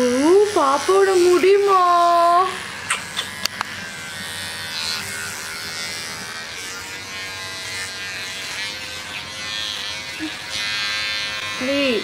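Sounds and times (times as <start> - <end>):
electric hair clipper running: 0.0 - 12.0.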